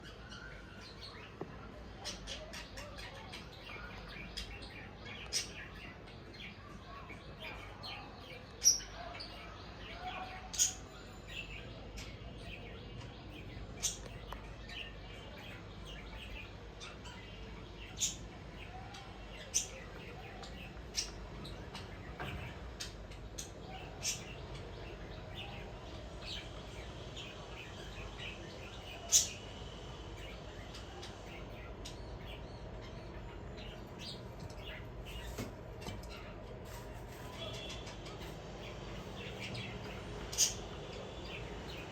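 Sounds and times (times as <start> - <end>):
pet birds chirping: 0.0 - 41.9.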